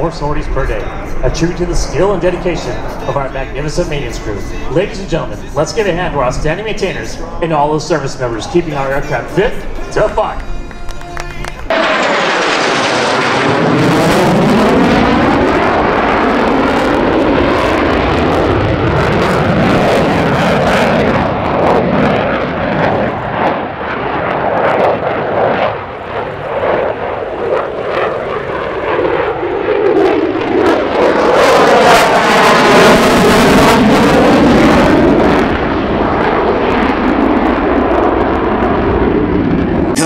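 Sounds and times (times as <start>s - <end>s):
jet engine passing: 0.0s - 40.0s.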